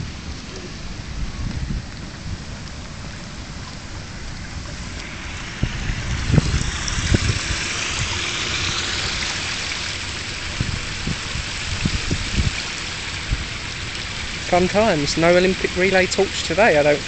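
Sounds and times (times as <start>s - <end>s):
rainwater running and trickling: 0.0s - 17.0s.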